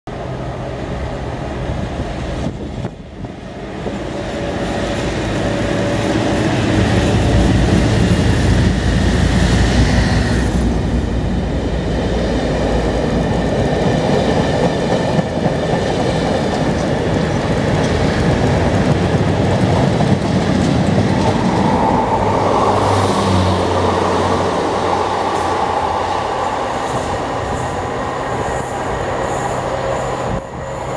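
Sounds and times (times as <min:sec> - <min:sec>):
diesel locomotive passing: 0:00.1 - 0:30.9.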